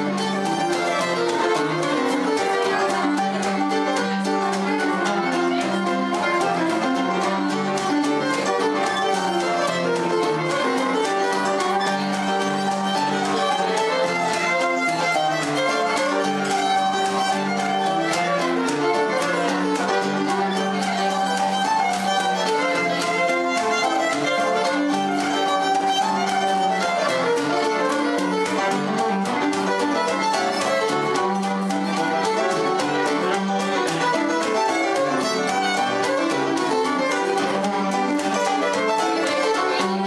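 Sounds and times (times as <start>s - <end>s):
instrumental background music: 0.0s - 40.0s.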